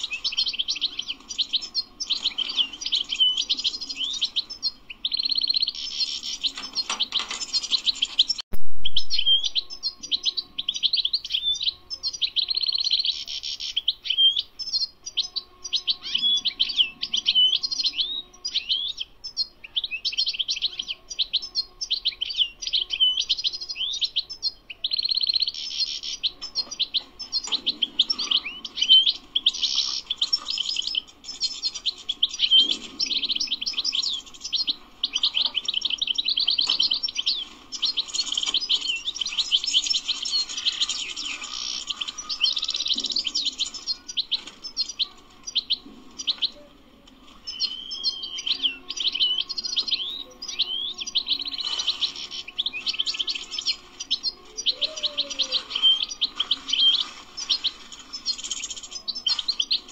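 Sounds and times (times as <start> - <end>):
goldfinch singing: 0.0 - 59.9.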